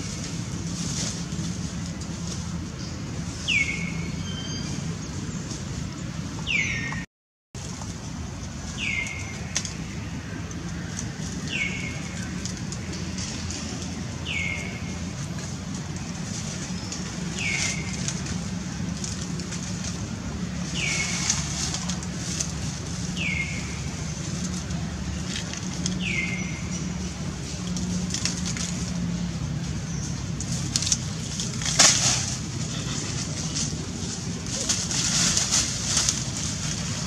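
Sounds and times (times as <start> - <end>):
dry leaves crackling and rustling: 0.0 - 6.9, 7.6 - 37.0.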